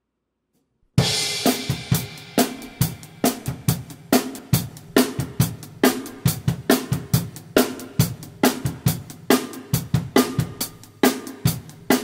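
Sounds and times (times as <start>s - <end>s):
acoustic drum kit pop groove: 1.0s - 12.0s.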